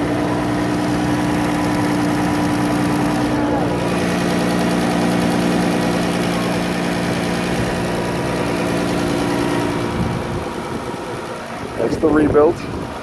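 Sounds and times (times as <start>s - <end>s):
car engine idling: 0.0s - 13.0s
engine ticking: 0.0s - 13.0s.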